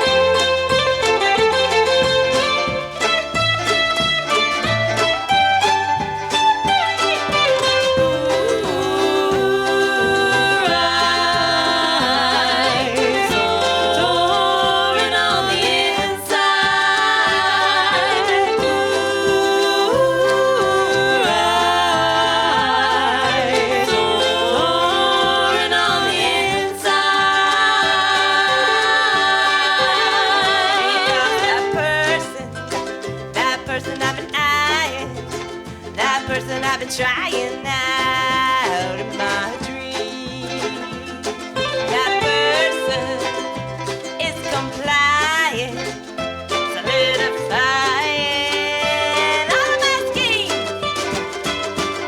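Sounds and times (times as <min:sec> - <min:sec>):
bass line: 0:00.0 - 0:52.0
live band playing: 0:00.0 - 0:52.0
voices singing in harmony: 0:07.6 - 0:35.0, 0:36.0 - 0:51.4.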